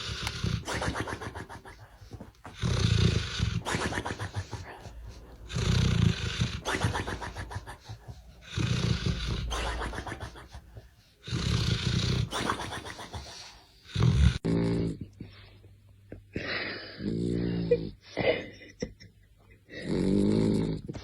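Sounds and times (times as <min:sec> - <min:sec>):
dog snoring: 0:00.0 - 0:15.1, 0:17.0 - 0:17.9, 0:19.7 - 0:21.0.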